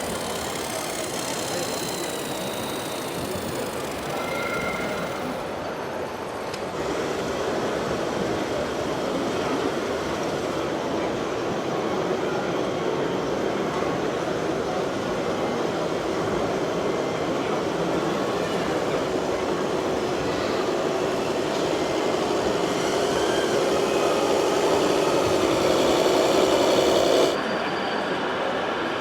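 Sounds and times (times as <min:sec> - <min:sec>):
model trucks mechanical rumble: 0:00.0 - 0:11.7, 0:13.4 - 0:27.4.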